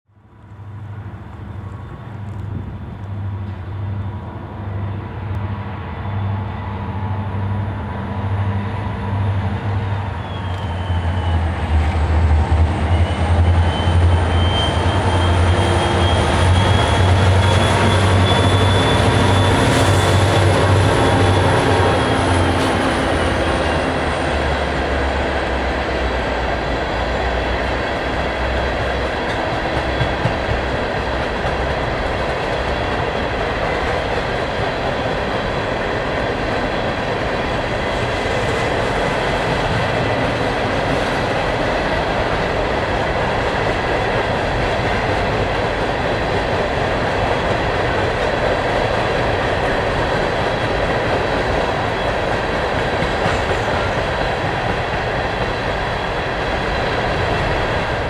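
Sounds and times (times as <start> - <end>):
diesel locomotive passing: 0.3 - 58.0
locomotive engine whine: 0.8 - 58.0.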